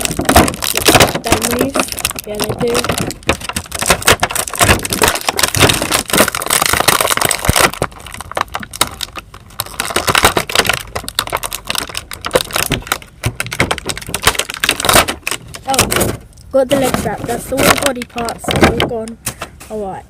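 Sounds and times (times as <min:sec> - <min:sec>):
plastic packaging crinkling: 0:00.0 - 0:19.2.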